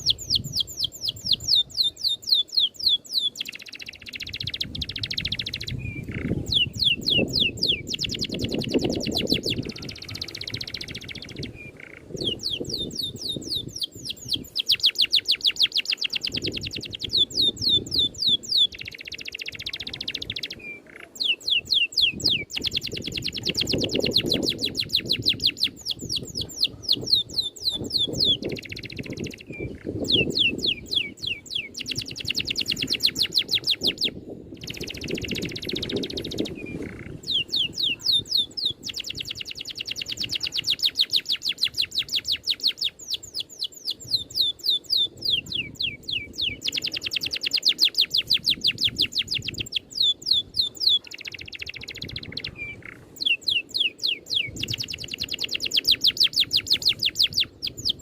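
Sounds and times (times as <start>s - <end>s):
buzzy trilled birdsong: 0.0s - 58.0s
songbird singing rapid whistles: 0.0s - 58.0s.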